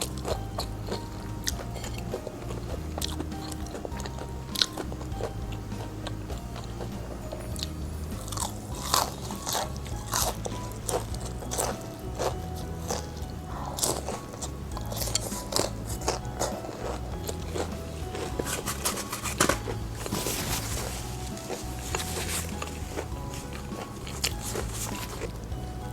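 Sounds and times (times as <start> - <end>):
crunchy chewing of fried chicken: 0.0 - 25.9
soft background music: 0.0 - 25.9.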